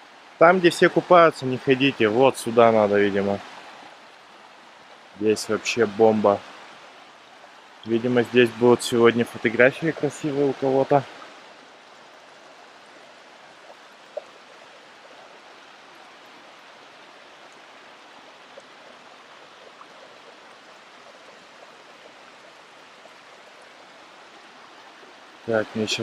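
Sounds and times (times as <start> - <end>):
stream cascading over rocks: 0.0 - 26.0.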